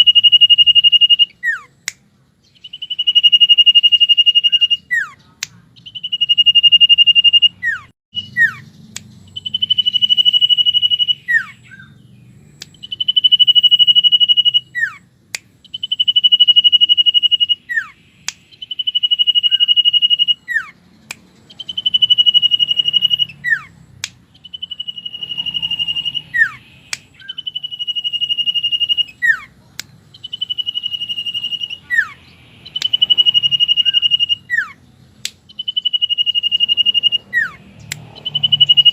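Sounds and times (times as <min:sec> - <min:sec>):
bird whistling song: 0:00.0 - 0:38.9.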